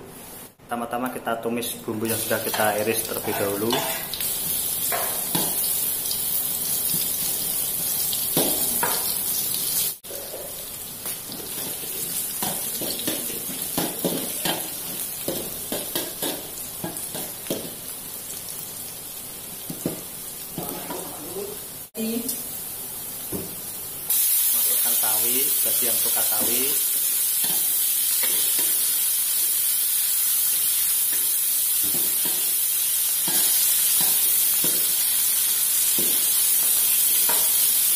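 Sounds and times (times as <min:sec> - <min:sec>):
shallots sizzling in oil: 0:02.0 - 0:37.9.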